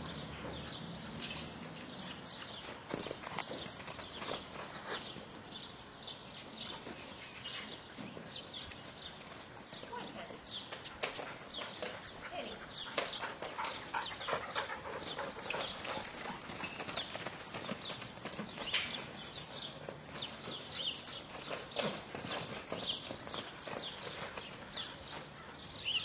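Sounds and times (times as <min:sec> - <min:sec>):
hoofbeats on sand: 0:00.0 - 0:09.9, 0:10.5 - 0:25.8.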